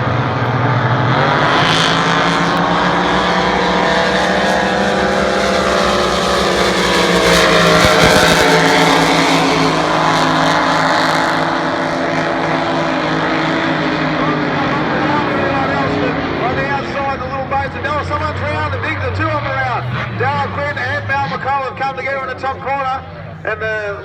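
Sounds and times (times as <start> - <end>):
racing boat engines at high revs: 0.0 - 24.0.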